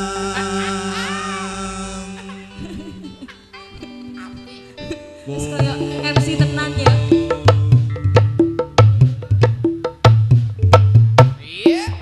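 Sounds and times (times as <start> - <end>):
plucked guitar notes: 0.0 - 11.1.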